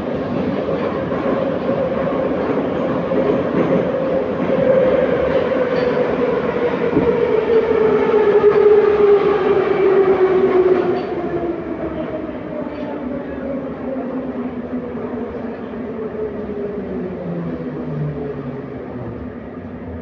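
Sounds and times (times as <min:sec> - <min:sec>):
rumble of train wheels: 0:00.0 - 0:20.0.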